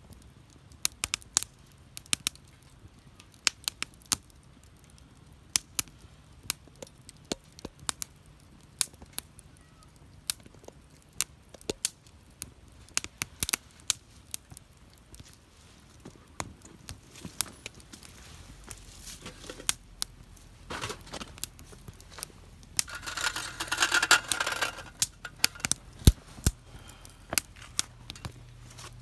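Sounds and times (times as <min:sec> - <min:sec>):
wood fire crackling: 0:00.1 - 0:29.0.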